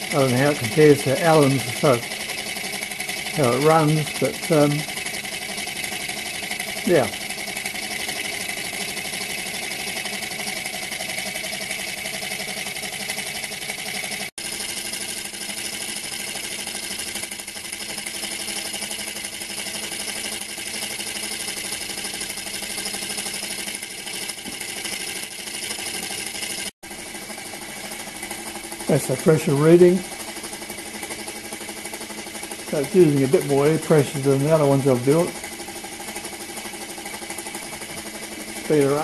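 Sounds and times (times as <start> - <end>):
model steam engine clattering: 0.0 - 26.7, 27.4 - 39.0
metal plate vibrating: 0.0 - 39.0.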